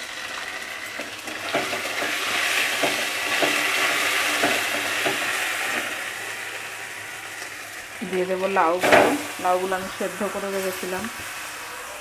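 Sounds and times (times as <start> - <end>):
food frying in hot oil: 0.0 - 12.0.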